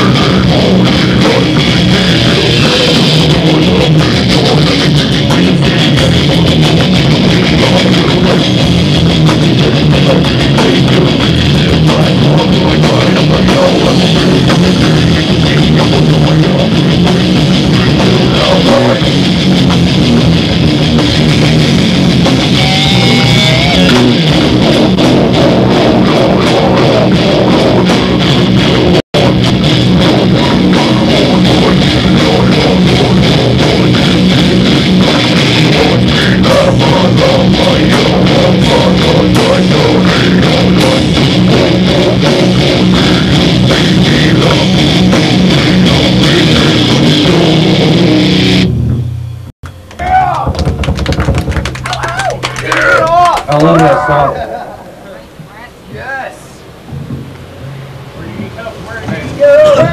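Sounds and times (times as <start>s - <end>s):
fast drum kit: 0.0s - 49.1s, 49.8s - 53.9s, 58.2s - 59.9s
electric guitars: 0.0s - 59.9s.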